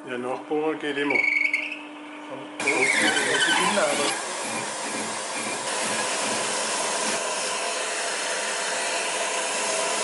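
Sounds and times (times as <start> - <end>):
faint motor whine: 0.0 - 10.0.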